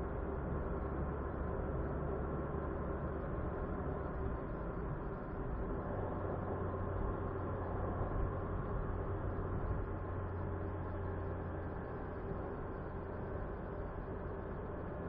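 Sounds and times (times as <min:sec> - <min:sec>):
car engine hum: 0:00.0 - 0:15.0
road rumble: 0:00.0 - 0:15.0.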